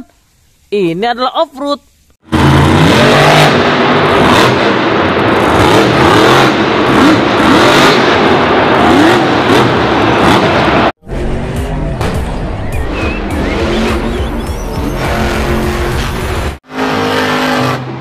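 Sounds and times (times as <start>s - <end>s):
monster truck engine revving: 2.2s - 18.0s.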